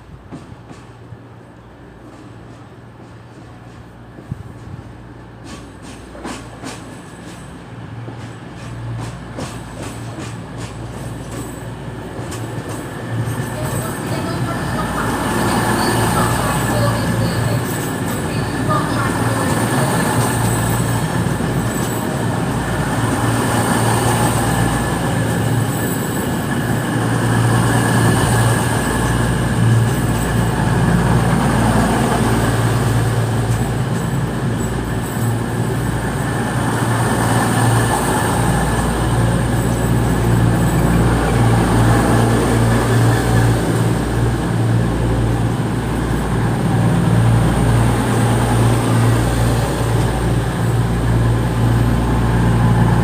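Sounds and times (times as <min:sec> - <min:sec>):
diesel train engine humming: 0:07.5 - 0:53.0.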